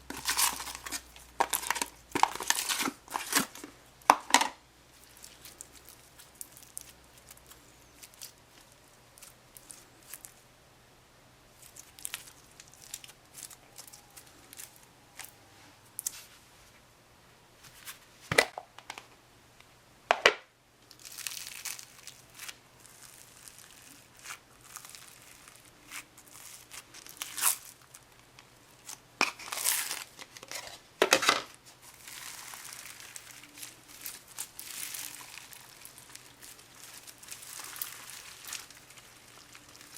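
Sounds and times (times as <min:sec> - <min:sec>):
crunchy slime crackling and tearing: 0:00.0 - 0:10.4, 0:11.5 - 0:15.4, 0:20.9 - 0:30.8, 0:31.8 - 0:39.9.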